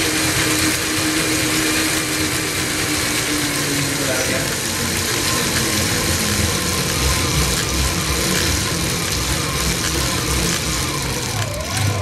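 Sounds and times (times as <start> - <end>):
alternator and drivetrain whirring: 0.0 - 12.0.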